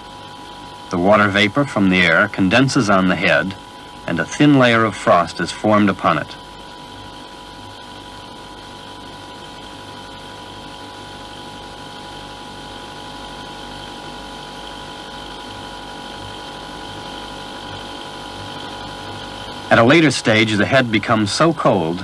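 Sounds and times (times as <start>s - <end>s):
machine humming and whining: 0.0s - 22.0s.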